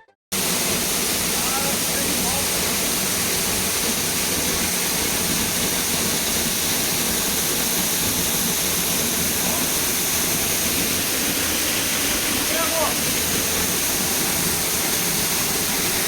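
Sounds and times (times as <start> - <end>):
waterfall roaring: 0.4 - 16.0.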